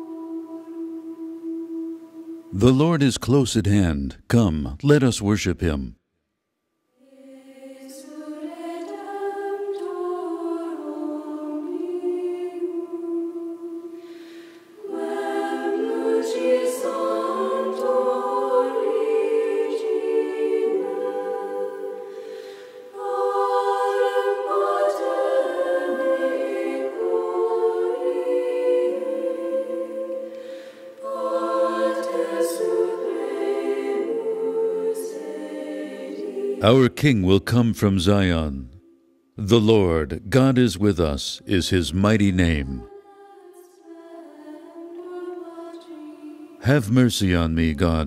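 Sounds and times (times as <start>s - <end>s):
choir singing a hymn: 0.0s - 3.6s, 7.0s - 38.5s, 39.5s - 48.0s.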